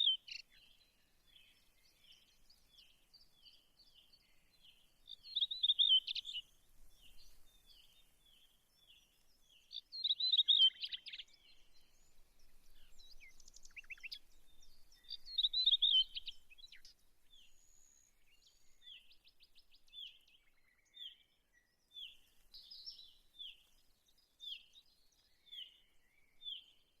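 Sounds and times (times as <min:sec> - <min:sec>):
bird chirps: 0:00.0 - 0:27.0
bird warbling song: 0:00.0 - 0:27.0.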